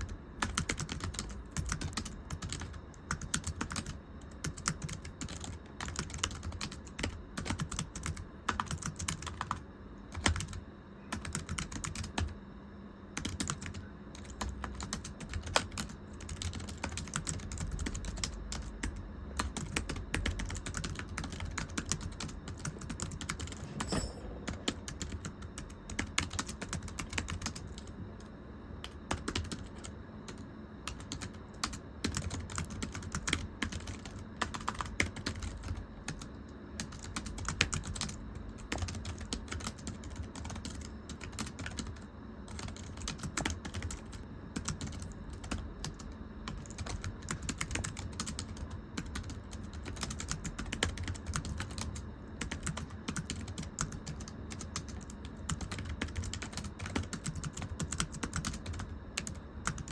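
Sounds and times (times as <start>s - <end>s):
typing on thin keyboard: 0.0s - 12.3s, 13.2s - 27.9s, 28.8s - 59.9s.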